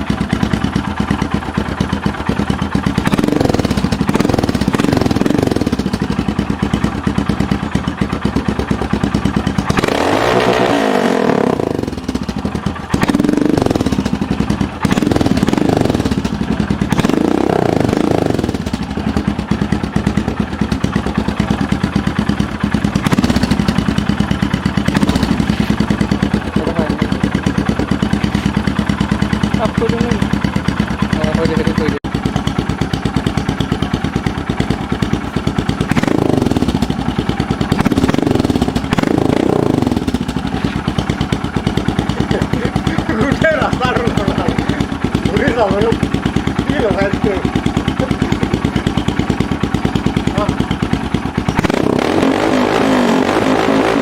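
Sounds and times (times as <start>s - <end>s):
motorcycle engine thumping idle: 0.0s - 52.2s
motorcycle engine revving: 0.0s - 54.0s.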